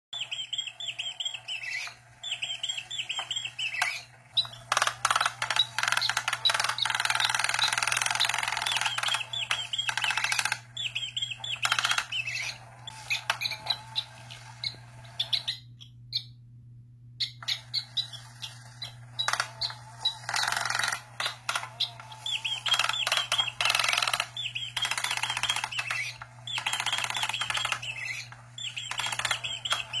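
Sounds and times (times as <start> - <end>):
bird chirping and twittering: 0.1 - 16.4, 17.2 - 30.0.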